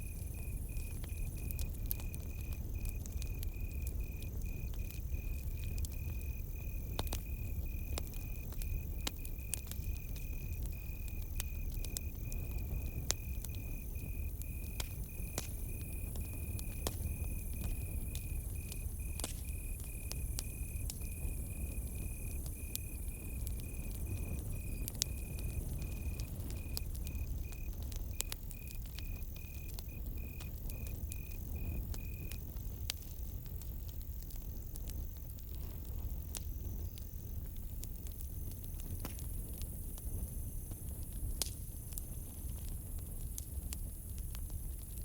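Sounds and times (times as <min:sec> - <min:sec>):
crickets chirping: 0:00.0 - 0:43.0
campfire crackling and popping: 0:00.0 - 0:45.0.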